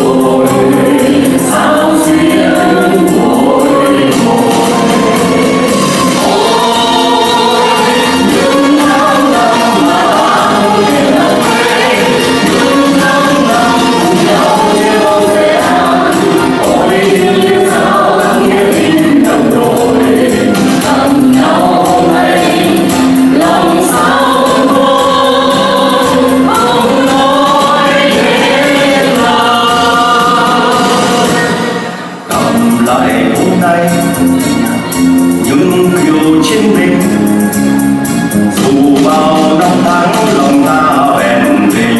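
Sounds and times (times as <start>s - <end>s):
mixed vocal group singing: 0.0s - 41.9s.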